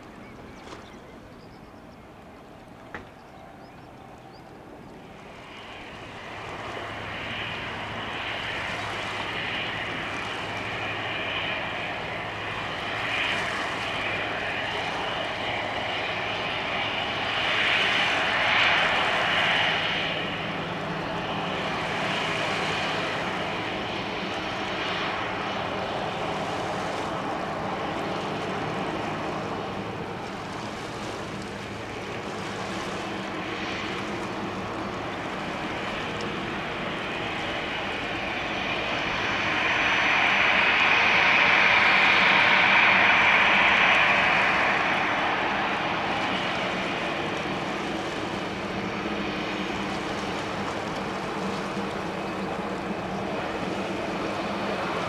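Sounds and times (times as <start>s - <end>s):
jet engines whining: 1.2s - 55.0s.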